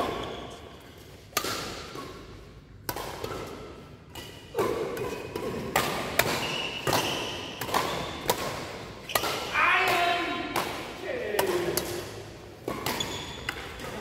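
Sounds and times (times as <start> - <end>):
rackets hitting shuttlecock: 1.2 - 14.0.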